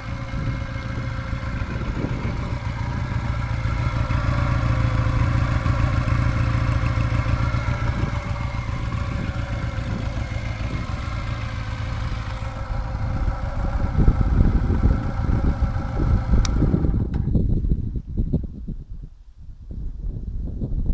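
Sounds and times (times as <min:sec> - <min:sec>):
motorcycle engine idling: 0:00.0 - 0:17.7.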